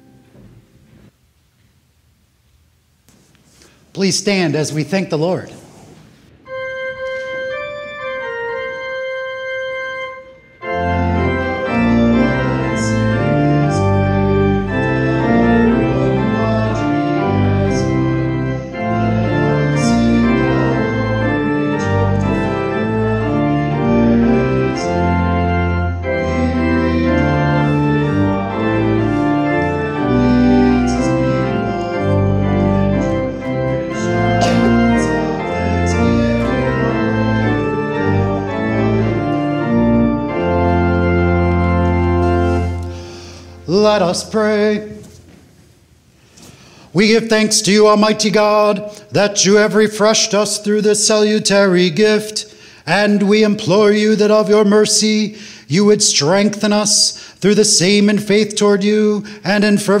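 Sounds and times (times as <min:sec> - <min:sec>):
church organ playing chords: 0:00.0 - 0:01.1, 0:06.3 - 1:00.0.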